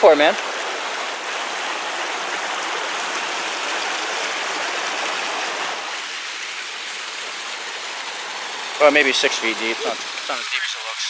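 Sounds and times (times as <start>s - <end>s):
stream water cascading over rocks: 0.0s - 11.0s.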